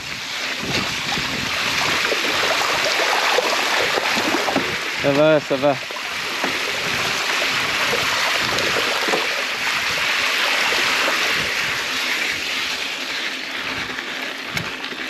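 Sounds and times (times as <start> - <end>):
bike tyres splashing through water: 0.0 - 15.0.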